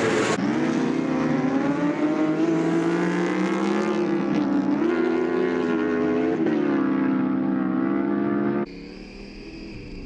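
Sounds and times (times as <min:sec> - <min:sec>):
motorbike engines revving high: 0:00.0 - 0:08.9.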